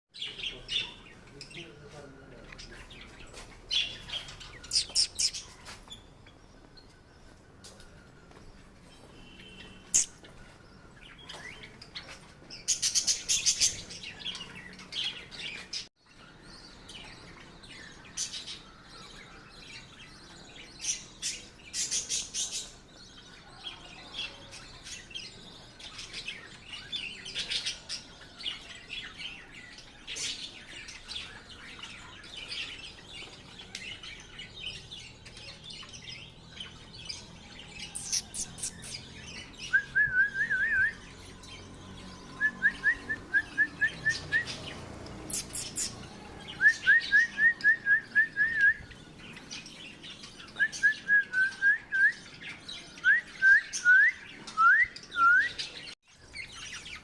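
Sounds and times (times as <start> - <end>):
lovebirds chirping: 0.1 - 57.0.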